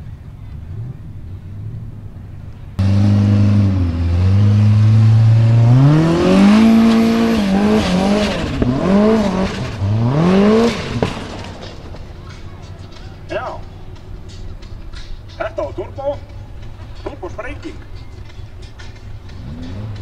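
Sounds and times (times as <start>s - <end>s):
buggy engine revving: 0.0s - 20.0s.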